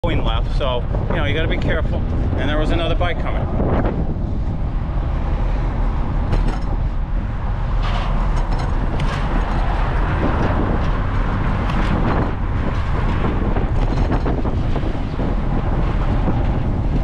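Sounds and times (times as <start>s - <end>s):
street traffic: 0.0s - 17.0s
wind rumble on microphone: 0.0s - 17.0s.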